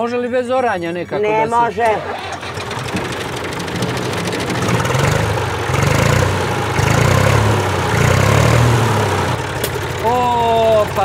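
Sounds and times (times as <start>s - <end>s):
tractor diesel engine revving: 1.2s - 11.0s.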